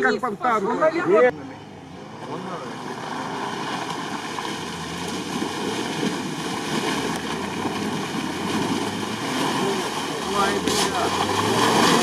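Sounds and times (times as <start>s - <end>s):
engine running under load: 1.3s - 12.0s
tyres splashing through muddy water: 1.8s - 12.0s.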